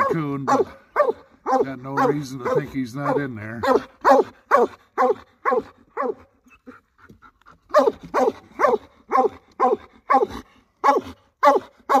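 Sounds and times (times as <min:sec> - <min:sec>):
dog barking: 0:00.0 - 0:06.3, 0:07.7 - 0:12.0.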